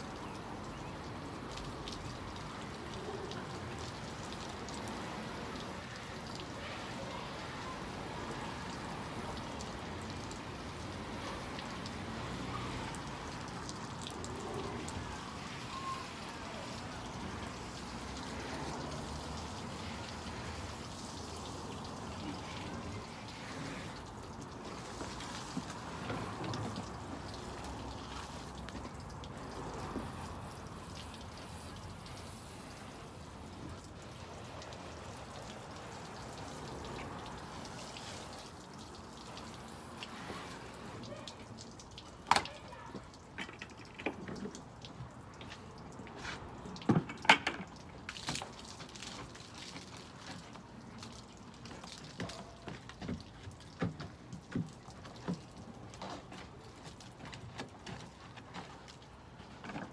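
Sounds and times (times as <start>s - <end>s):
hose water spraying and splashing: 0.0s - 59.9s.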